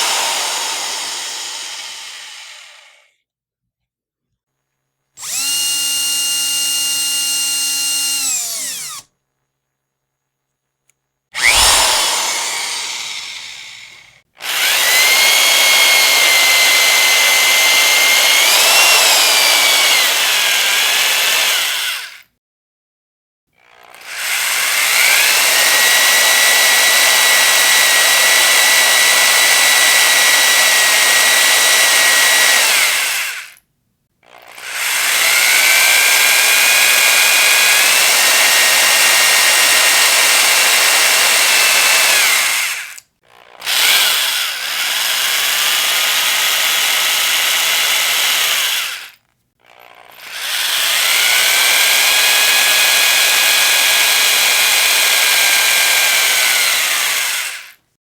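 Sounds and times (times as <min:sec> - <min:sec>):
electric power drill whining: 0:00.0 - 0:03.1, 0:05.2 - 0:09.1, 0:11.4 - 0:22.2, 0:23.7 - 0:33.6, 0:34.2 - 0:57.8.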